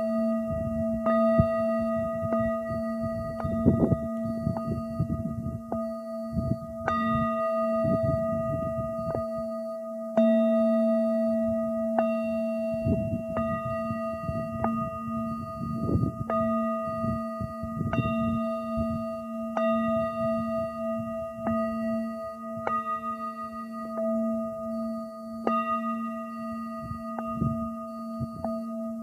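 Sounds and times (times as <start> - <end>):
small metal instrument ringing: 0.0 - 29.0
wind rumbling on microphone: 0.0 - 29.0.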